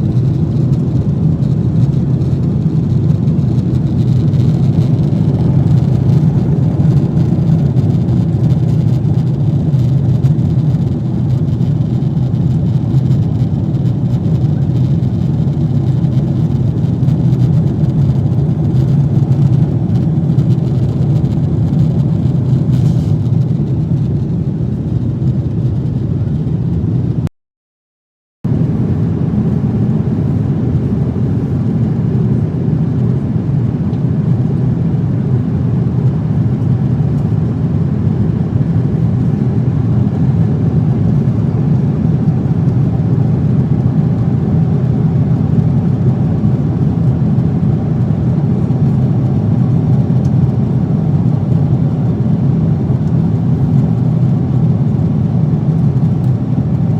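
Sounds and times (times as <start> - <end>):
airliner cabin roar: 0.0 - 27.3, 28.5 - 56.9.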